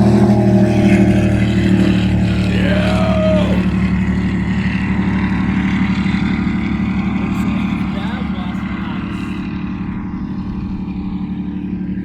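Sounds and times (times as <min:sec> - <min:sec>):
powerboat engines roaring: 0:00.0 - 0:12.0.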